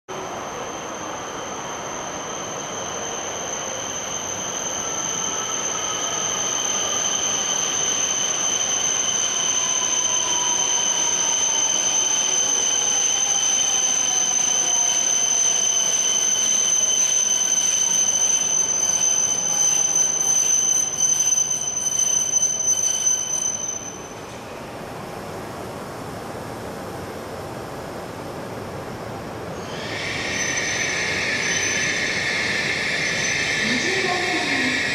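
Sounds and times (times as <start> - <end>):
train braking: 0.1 - 25.7, 28.3 - 34.9
high brake squeal: 0.2 - 24.5, 29.6 - 34.9.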